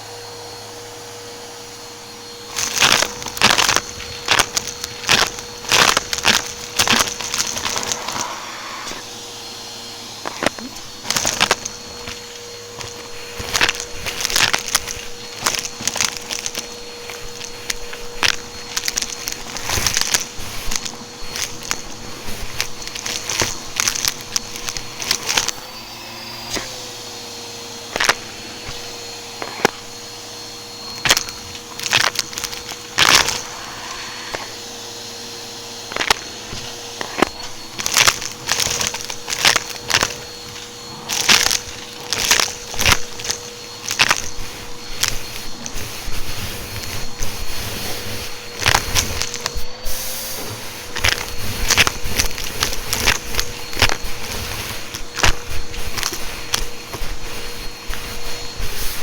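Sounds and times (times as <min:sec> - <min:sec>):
vacuum cleaner motor whine: 0:00.0 - 0:59.0
debris crackling in vacuum: 0:02.0 - 0:59.0.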